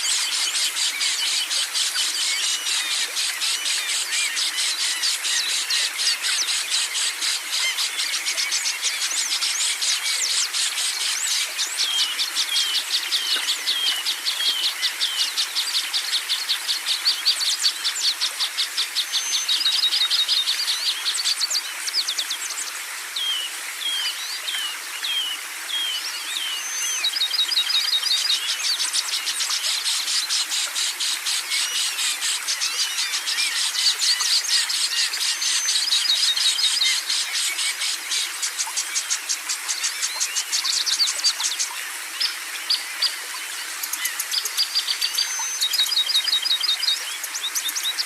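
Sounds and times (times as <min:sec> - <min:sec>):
songbirds chirping and trilling: 0:00.0 - 0:48.0.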